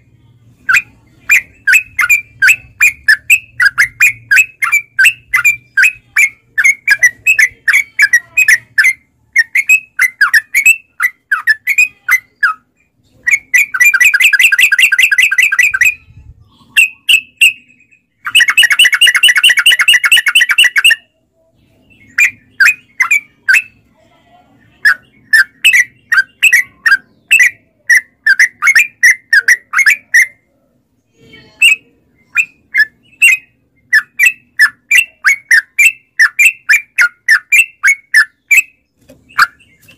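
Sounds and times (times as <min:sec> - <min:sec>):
bird chattering song: 0:00.6 - 0:30.6, 0:31.3 - 0:39.9.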